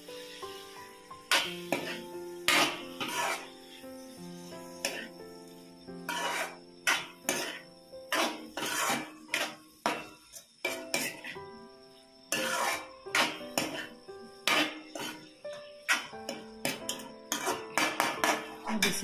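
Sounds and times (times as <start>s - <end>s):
background music with held notes: 0.0s - 19.0s
metal spoon scraping a wok: 0.2s - 5.2s, 6.0s - 11.4s, 12.3s - 18.9s.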